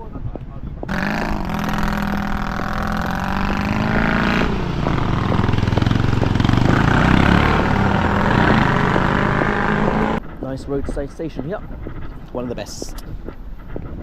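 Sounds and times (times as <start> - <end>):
vehicle engine running: 0.9 - 14.0.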